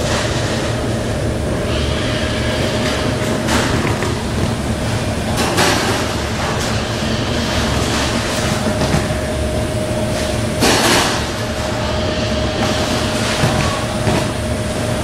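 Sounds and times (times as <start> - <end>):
conveyor machinery rumbling: 0.0 - 15.0.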